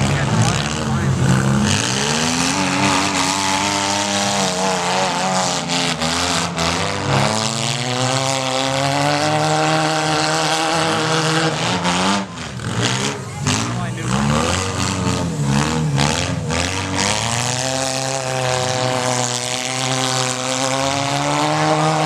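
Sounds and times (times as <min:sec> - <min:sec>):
small car engines revving: 0:00.0 - 0:22.0.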